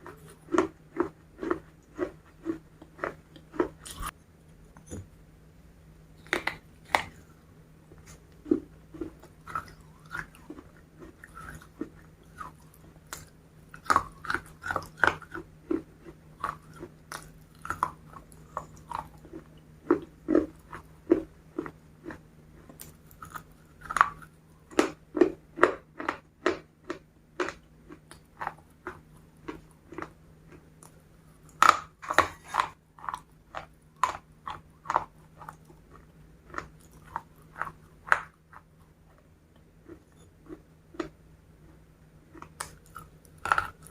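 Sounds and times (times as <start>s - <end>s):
crunchy chewing: 0.0s - 4.2s, 6.2s - 43.9s.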